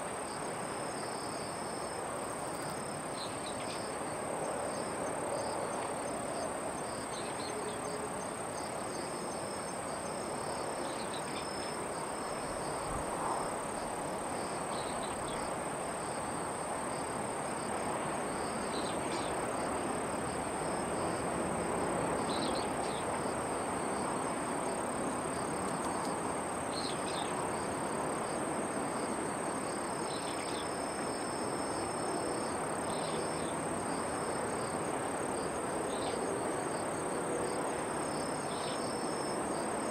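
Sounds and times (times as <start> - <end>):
insects chirring: 0.4 - 39.9.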